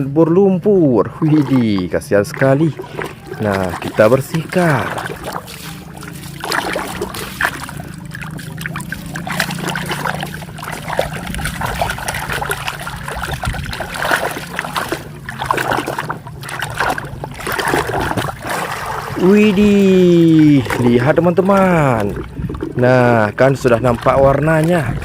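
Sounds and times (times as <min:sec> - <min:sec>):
steady low hum: 0:00.0 - 0:25.0
water trickling and splashing: 0:00.7 - 0:25.0.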